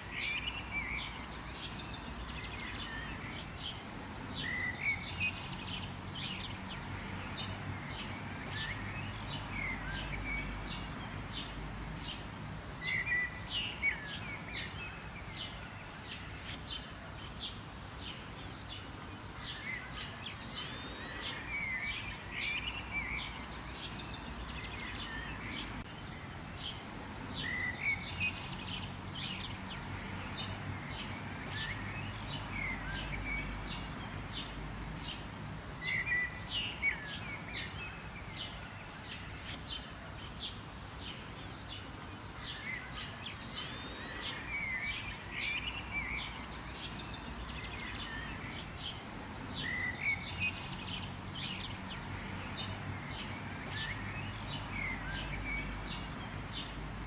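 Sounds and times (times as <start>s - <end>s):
birds chirping and calling: 0.0s - 56.8s
faint background hiss: 0.0s - 57.0s.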